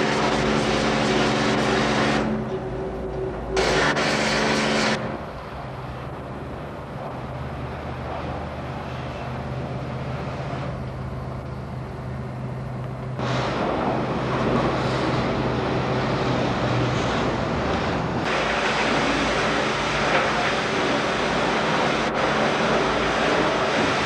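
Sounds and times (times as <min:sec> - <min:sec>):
diesel locomotive engine idling: 0:00.0 - 0:23.9
broad rushing noise: 0:00.0 - 0:24.0.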